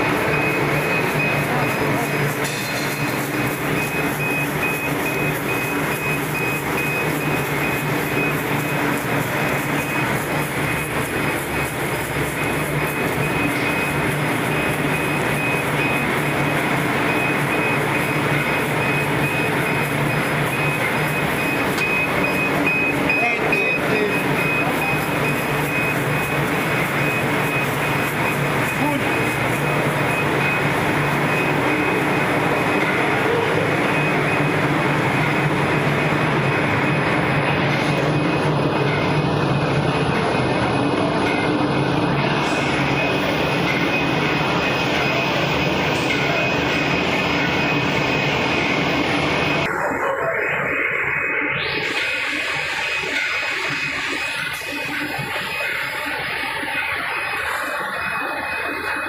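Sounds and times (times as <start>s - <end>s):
electric motors and gearboxes humming: 0.0s - 59.0s
machinery running: 0.0s - 59.0s.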